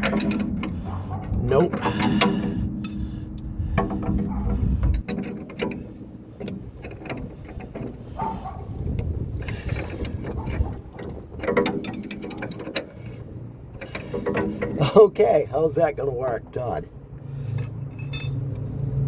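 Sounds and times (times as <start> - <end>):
wrench clicking and clanking on steel: 0.0 - 16.7, 17.5 - 18.6.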